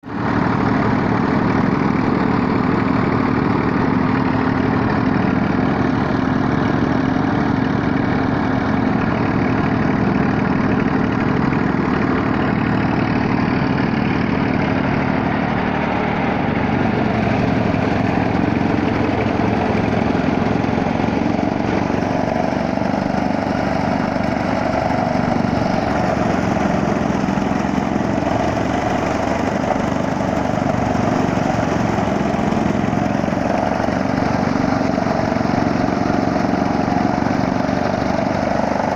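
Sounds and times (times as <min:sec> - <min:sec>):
chaff cutter mechanical drone: 0:00.0 - 0:38.9.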